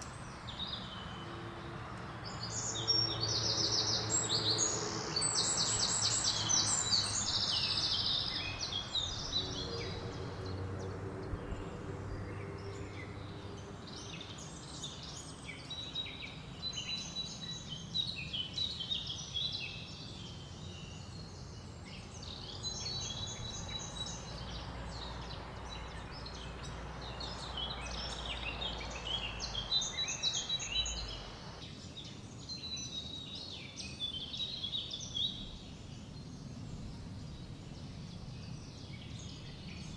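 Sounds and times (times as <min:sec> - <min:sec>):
songbirds chirping and trilling: 0:00.0 - 0:39.9
wind through forest leaves: 0:00.0 - 0:39.9.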